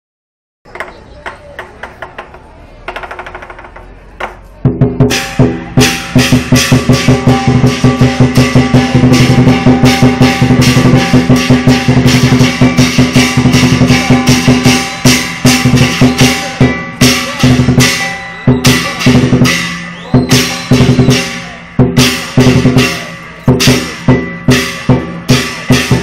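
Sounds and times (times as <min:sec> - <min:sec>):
drums playing: 0:02.9 - 0:26.0
crashing cymbals: 0:05.1 - 0:26.0.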